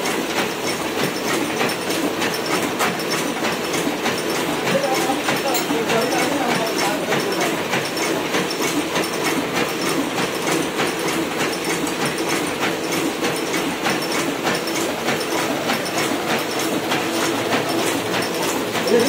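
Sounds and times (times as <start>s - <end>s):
printing press clattering: 0.0s - 19.0s.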